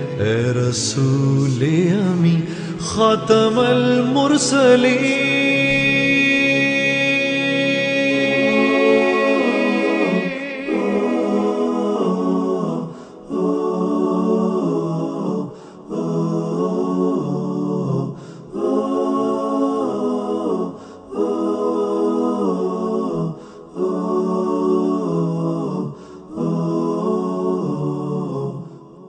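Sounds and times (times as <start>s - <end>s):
layered voices singing: 0.0s - 29.0s.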